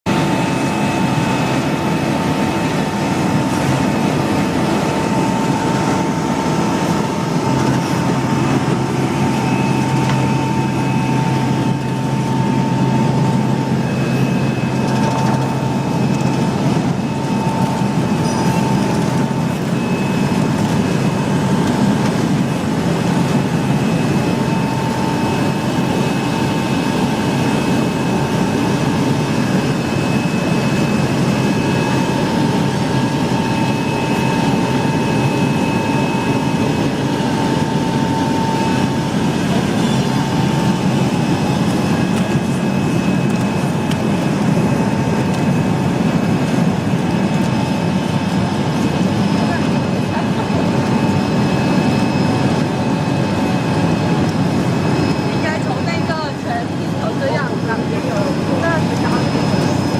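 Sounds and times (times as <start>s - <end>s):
machine whining over low hum: 0.1s - 59.9s.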